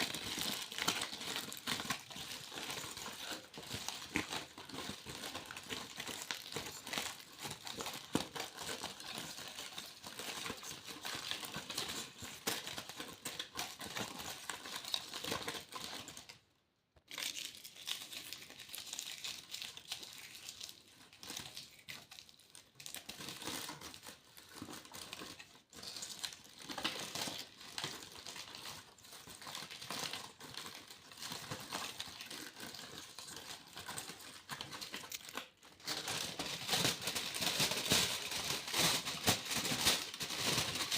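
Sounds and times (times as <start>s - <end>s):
foil crinkling by hand: 0.0s - 16.4s, 17.1s - 40.9s.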